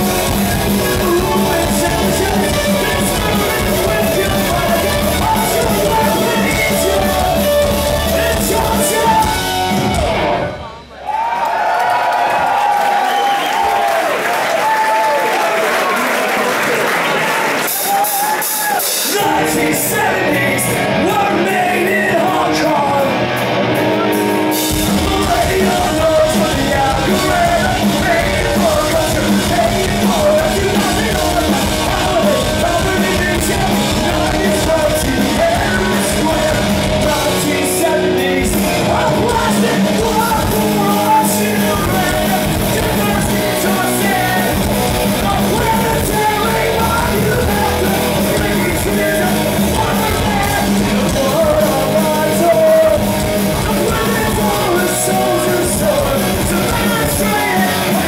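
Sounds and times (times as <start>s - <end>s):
person yelling and singing: 0.0s - 10.4s, 17.7s - 23.2s, 24.8s - 58.0s
bass and drums: 0.0s - 10.9s, 17.6s - 58.0s
distorted electric guitars: 0.0s - 11.0s, 17.5s - 58.0s.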